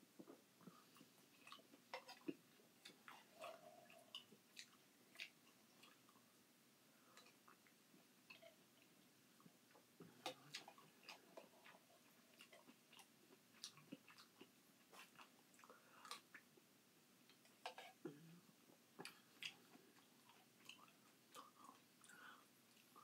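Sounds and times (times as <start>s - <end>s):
faint chewing and mouth noises: 0.0s - 23.0s.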